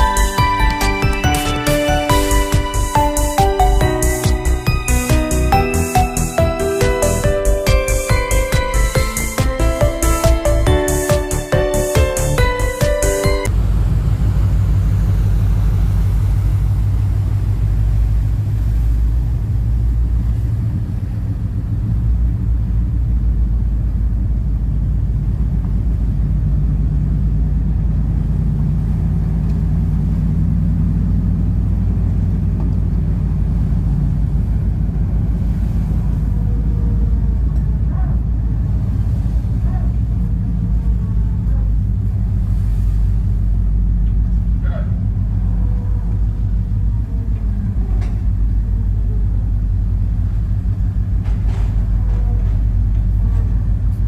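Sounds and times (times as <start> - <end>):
deep drone: 0.0 - 54.0
low engine rumble: 0.0 - 54.0.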